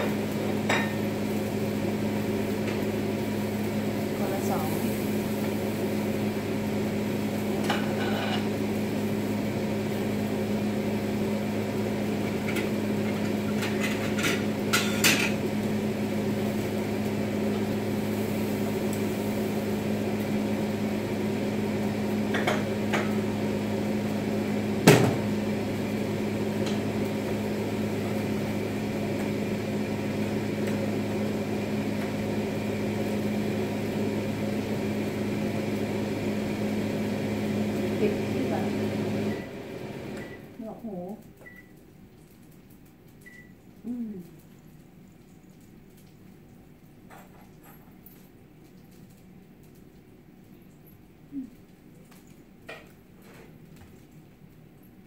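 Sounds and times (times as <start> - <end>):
vent fan humming: 0.0 - 55.0.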